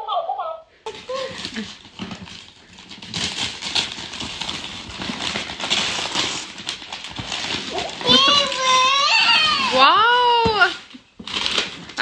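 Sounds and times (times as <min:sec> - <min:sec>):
wrapping paper tearing and rustling: 0:00.9 - 0:12.0.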